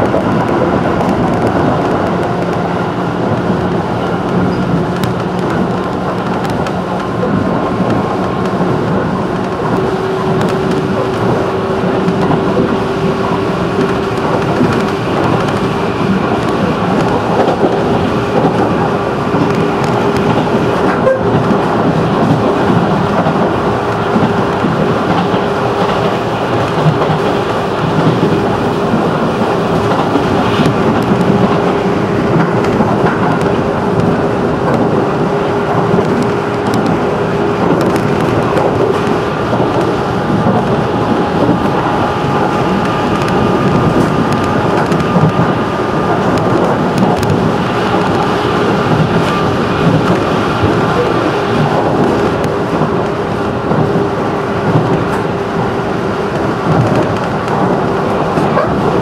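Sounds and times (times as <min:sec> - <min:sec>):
steady train whine: 0:00.0 - 0:59.0
train wheels rumbling on rail: 0:00.0 - 0:59.0.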